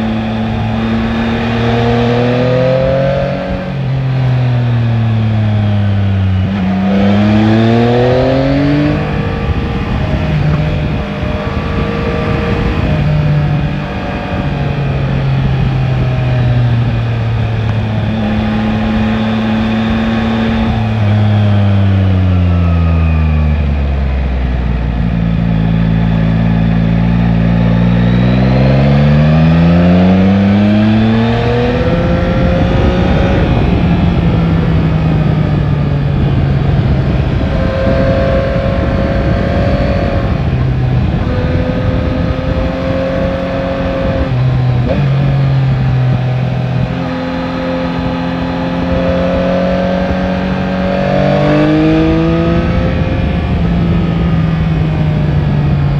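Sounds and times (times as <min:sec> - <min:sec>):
wind noise rushing: 0:00.0 - 0:23.1, 0:25.0 - 0:55.9
motorcycle engine revving: 0:00.0 - 0:55.9.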